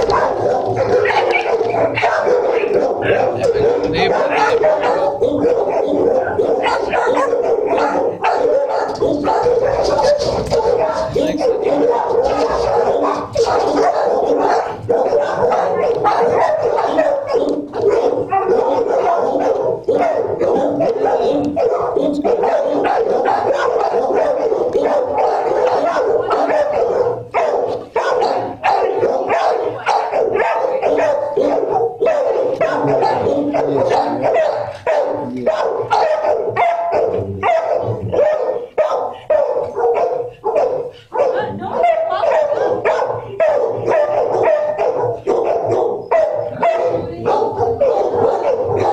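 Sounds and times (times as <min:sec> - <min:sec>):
dogs barking: 0:00.0 - 0:48.9.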